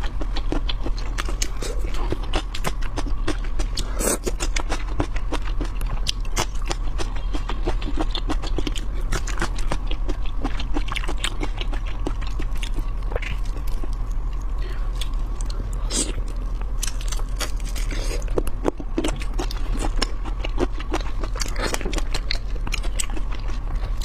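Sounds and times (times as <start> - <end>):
crunchy chewing: 0.0 - 24.0
low hum: 0.0 - 24.0.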